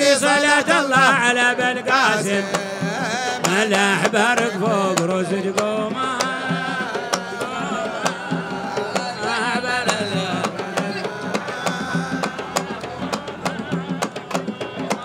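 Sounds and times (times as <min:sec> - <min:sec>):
hand drums beating: 0:00.0 - 0:15.0
person singing: 0:00.0 - 0:15.0.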